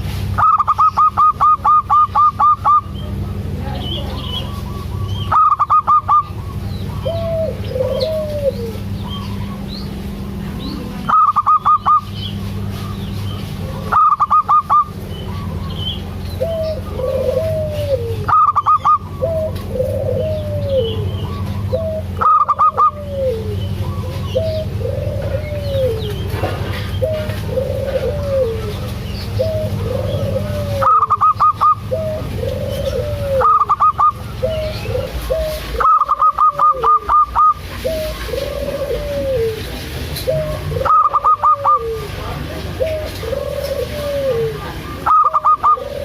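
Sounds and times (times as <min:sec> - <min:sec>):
doves cooing: 0:00.0 - 0:46.0
small birds chirping: 0:00.0 - 0:46.0
steady low hum: 0:00.0 - 0:46.0.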